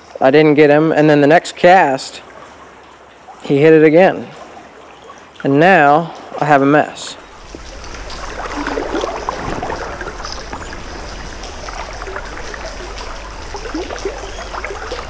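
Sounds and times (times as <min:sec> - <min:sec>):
stream water flowing: 0:00.0 - 0:15.0
water splashes and trickles: 0:00.0 - 0:15.0.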